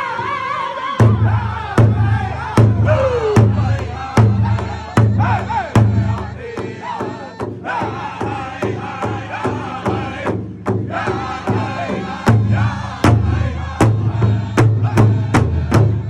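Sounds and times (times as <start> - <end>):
men and women chanting song: 0.0 - 16.0
large hide drum steady beat: 1.0 - 16.0.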